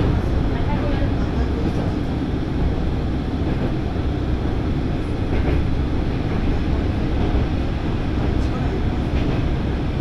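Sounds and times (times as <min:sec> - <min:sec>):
railcar engine and wheels rumbling: 0:00.0 - 0:10.0.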